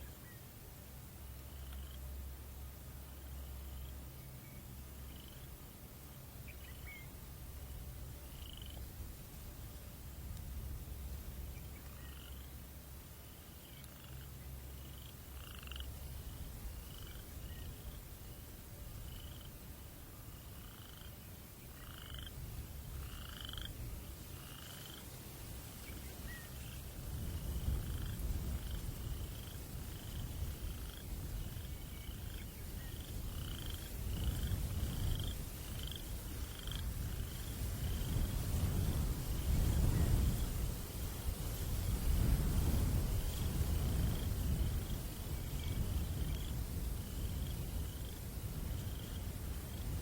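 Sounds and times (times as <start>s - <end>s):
low breeze rumble: 0.0s - 50.0s.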